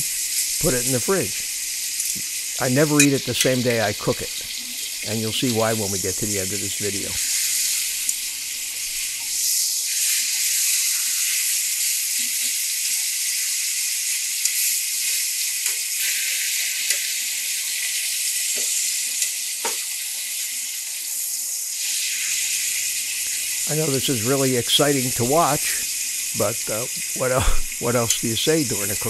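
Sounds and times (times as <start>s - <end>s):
steak sizzling in a pan: 0.0s - 29.0s.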